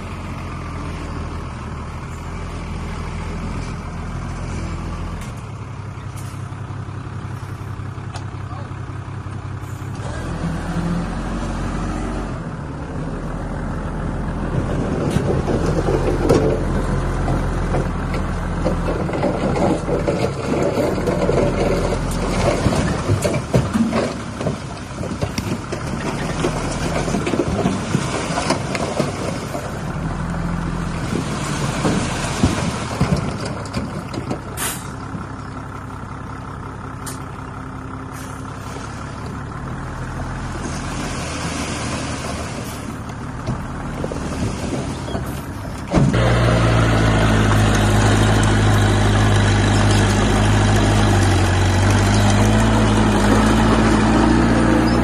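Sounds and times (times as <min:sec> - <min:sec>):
diesel engines of heavy machinery: 0:00.0 - 0:55.0
steady engine: 0:00.0 - 0:55.0.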